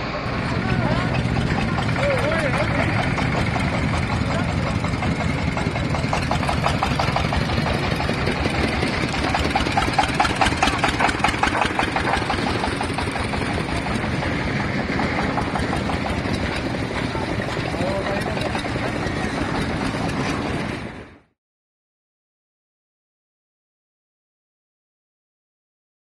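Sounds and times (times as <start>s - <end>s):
diesel engine chugging: 0.0s - 21.3s.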